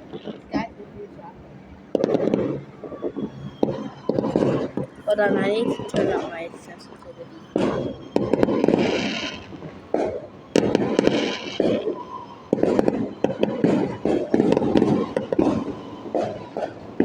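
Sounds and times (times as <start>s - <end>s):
fireworks bangs and booms: 1.9s - 17.0s.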